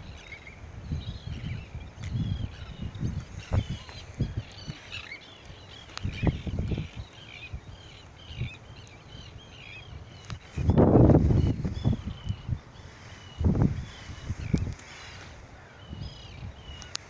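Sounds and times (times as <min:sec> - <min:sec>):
birds chirping: 0:00.0 - 0:17.0
wind buffeting microphone: 0:00.0 - 0:17.0.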